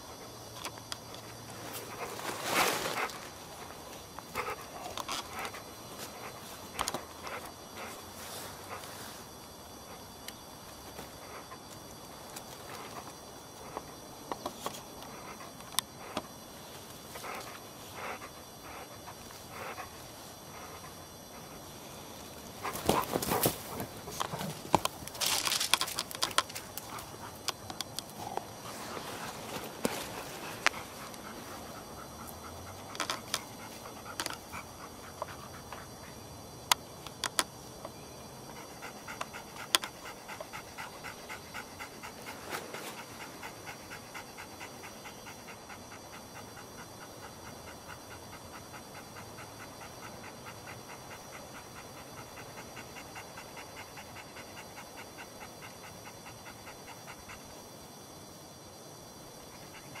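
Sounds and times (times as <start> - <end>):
dog panting: 1.1 - 9.0, 14.7 - 25.2, 25.8 - 36.3, 38.4 - 57.8, 59.4 - 60.0.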